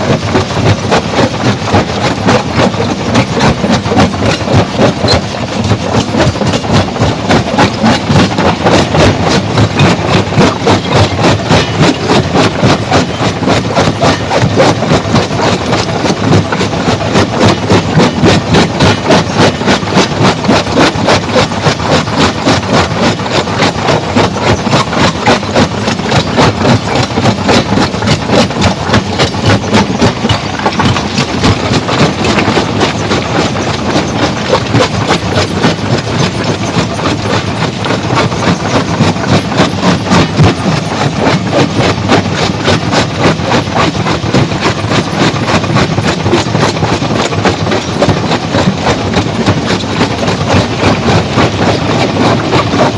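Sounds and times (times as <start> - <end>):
stone crusher clattering: 0.0 - 52.9.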